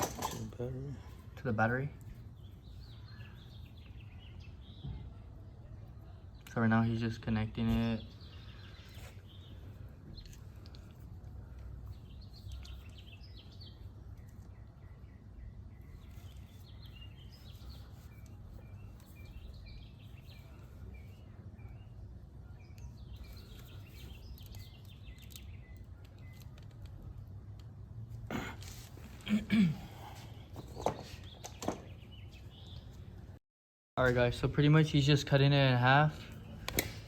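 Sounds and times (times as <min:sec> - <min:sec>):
birds chirping: 0:00.0 - 0:33.4.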